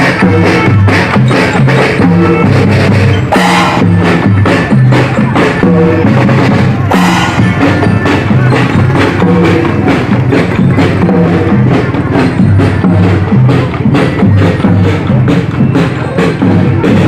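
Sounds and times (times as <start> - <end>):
loud music with steady beat: 0.0 - 17.0.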